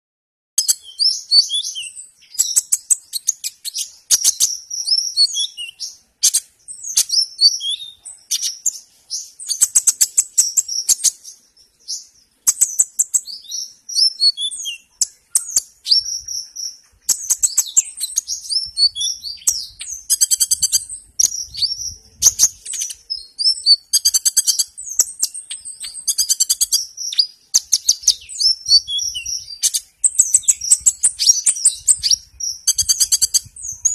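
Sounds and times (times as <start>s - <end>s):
bird singing twittering song: 0.6s - 33.9s.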